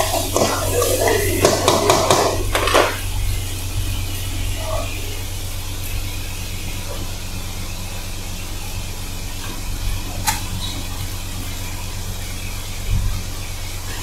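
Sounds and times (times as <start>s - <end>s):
food frying in wok: 0.0s - 14.0s
kitchen machinery hum: 0.0s - 14.0s.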